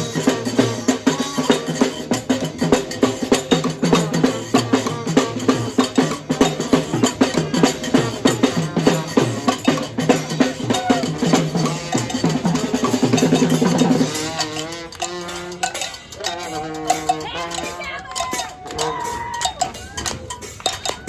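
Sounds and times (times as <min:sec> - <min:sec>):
brass band playing: 0:00.0 - 0:20.0
drum and percussion strikes: 0:00.0 - 0:21.0.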